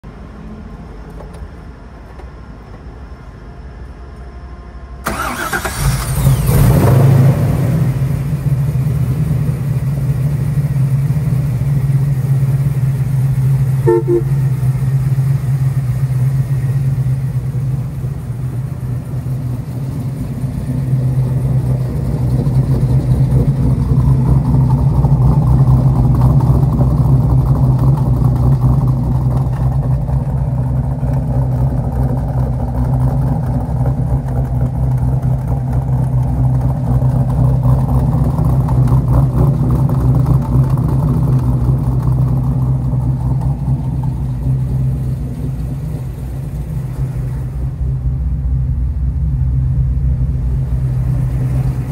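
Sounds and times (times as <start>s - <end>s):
car engine idling: 5.0s - 51.9s.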